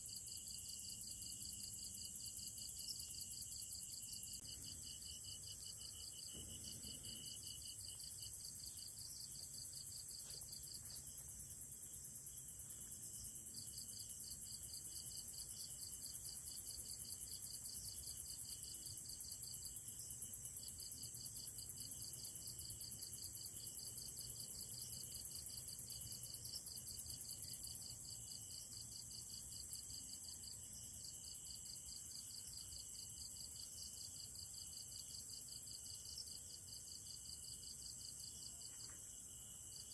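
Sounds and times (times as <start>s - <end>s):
high hiss of insects: 0.0s - 18.4s, 25.2s - 39.9s.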